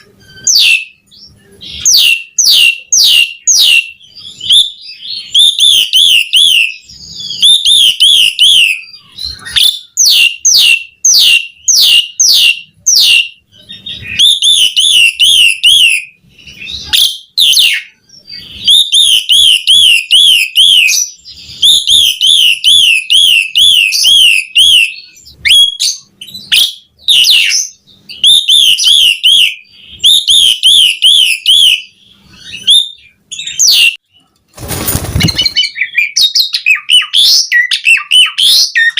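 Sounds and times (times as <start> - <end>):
starling singing trills and whistles: 0.0 - 38.9.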